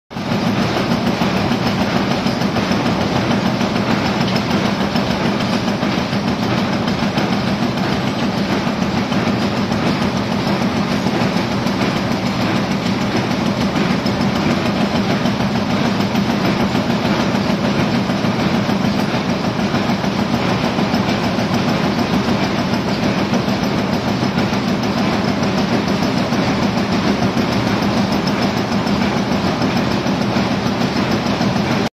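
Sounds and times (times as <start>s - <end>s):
punch presses clattering: 0.2s - 31.9s.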